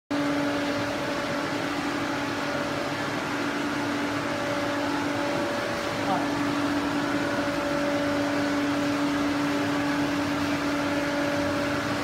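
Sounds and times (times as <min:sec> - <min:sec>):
steady machine hum: 0:00.1 - 0:12.0.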